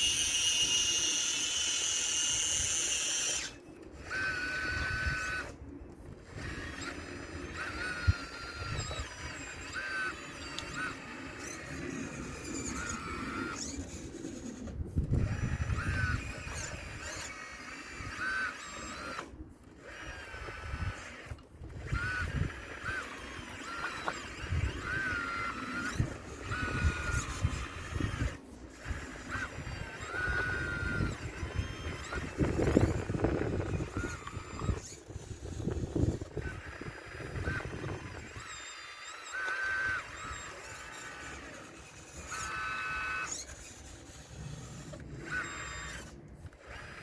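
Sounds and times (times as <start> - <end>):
small electric motors whining: 0.0 - 47.0.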